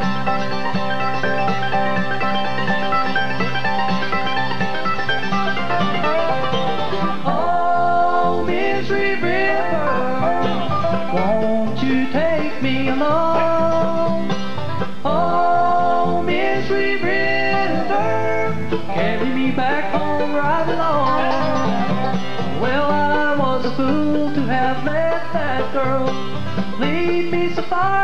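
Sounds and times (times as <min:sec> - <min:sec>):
bluegrass band playing: 0:00.0 - 0:28.0.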